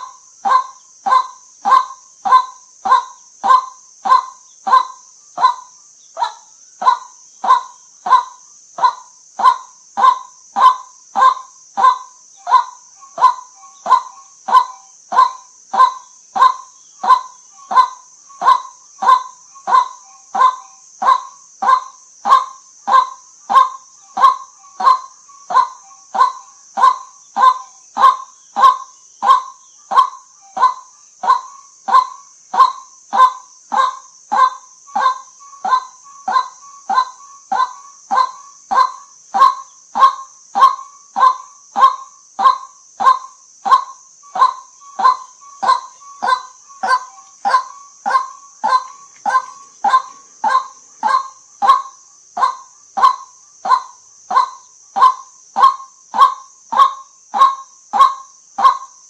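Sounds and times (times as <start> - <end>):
steady high hiss: 0.0 - 59.0
waterhen calling: 6.2 - 58.8.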